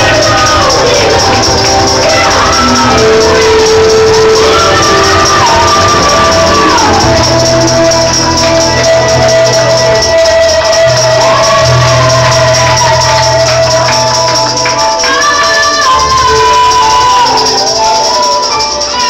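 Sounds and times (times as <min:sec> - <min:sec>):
bass line: 0:00.0 - 0:19.0
gospel song: 0:00.0 - 0:19.0
tambourine-like percussion: 0:00.0 - 0:19.0.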